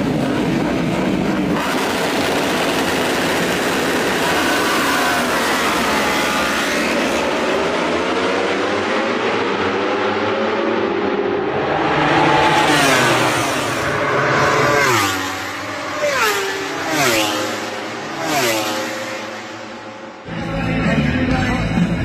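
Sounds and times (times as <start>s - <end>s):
motorcycle engine revving: 0.0s - 20.3s.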